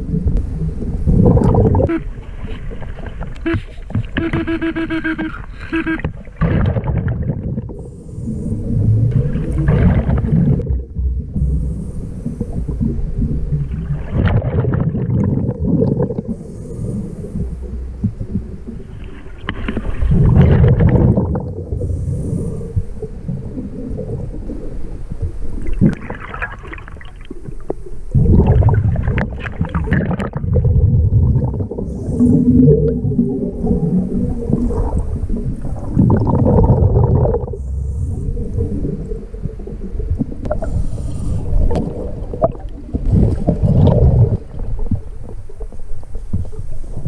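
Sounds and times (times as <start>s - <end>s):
bubbly exhaled air underwater: 0.0s - 4.2s, 5.4s - 47.0s.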